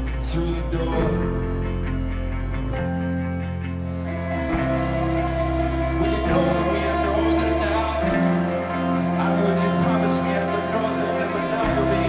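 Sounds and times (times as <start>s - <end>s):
electric guitar chords: 0.0s - 12.0s
sustained bass notes: 0.0s - 12.0s.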